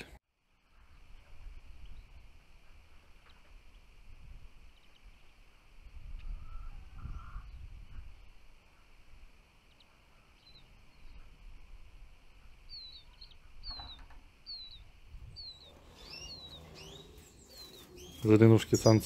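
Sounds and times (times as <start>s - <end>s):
small songbird calling: 0.7s - 19.0s.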